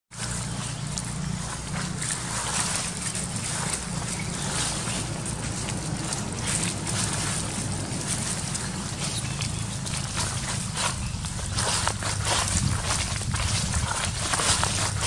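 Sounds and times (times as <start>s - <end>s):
rustling of dry leaf litter: 0.1s - 15.0s
wind rumble on microphone: 0.1s - 15.0s.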